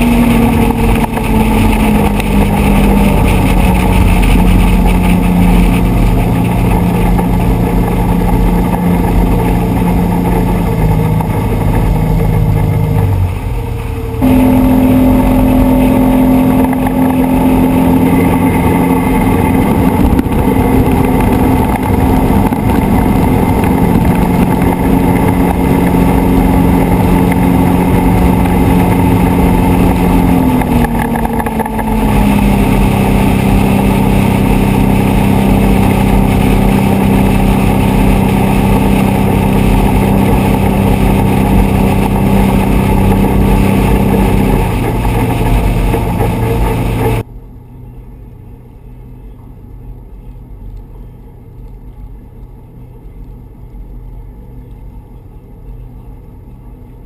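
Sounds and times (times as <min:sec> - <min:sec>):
water and wind noise: 0:00.0 - 0:47.3
outboard motor running: 0:00.0 - 0:57.0.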